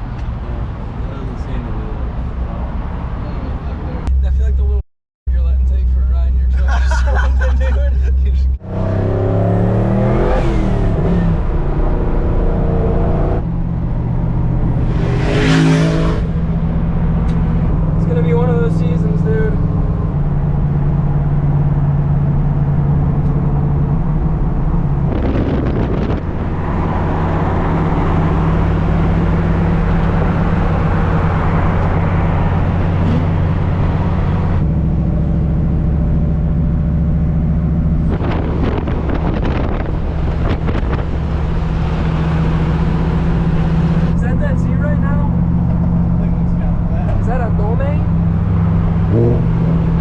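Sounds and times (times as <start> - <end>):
pickup truck engine drone: 3.8 - 50.0.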